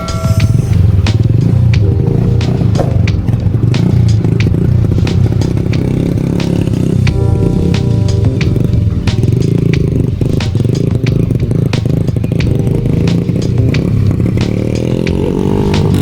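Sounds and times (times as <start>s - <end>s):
motorcycle engine running: 0.1s - 16.0s.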